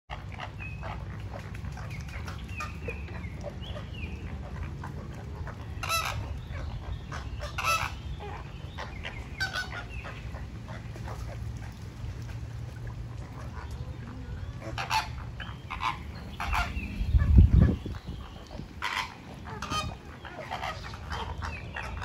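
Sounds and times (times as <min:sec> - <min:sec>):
flamingos calling: 0:00.1 - 0:11.9, 0:12.8 - 0:22.0.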